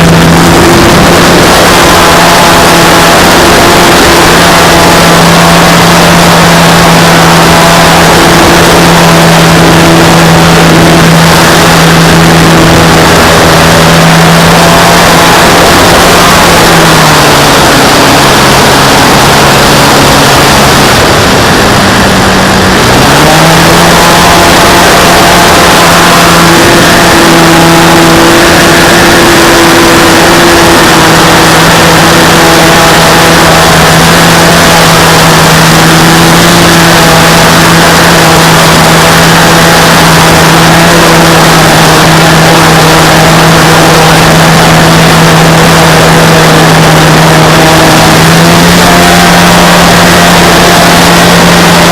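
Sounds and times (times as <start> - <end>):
heavy wind rush: 0.0 - 51.9
model airplane motor and propeller: 0.0 - 51.9.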